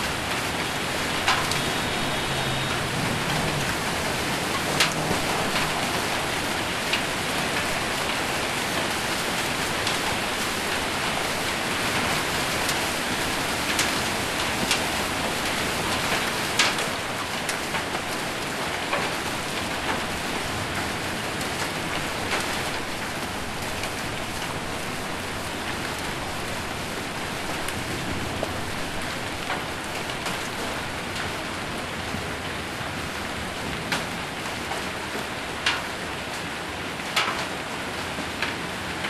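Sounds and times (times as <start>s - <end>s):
hailstones ticking on a roof: 0.0s - 39.0s
heavy rain on a roof: 0.0s - 39.0s.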